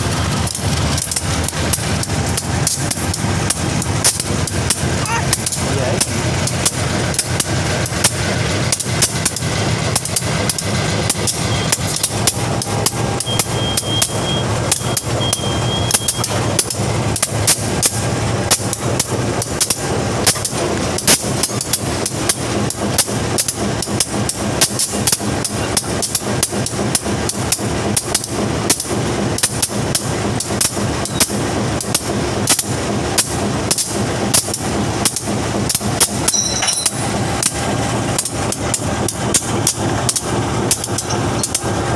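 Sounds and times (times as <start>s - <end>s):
clanks of wheels and couplings: 0.0s - 41.9s
freight wagon rumbling on track: 0.0s - 41.9s.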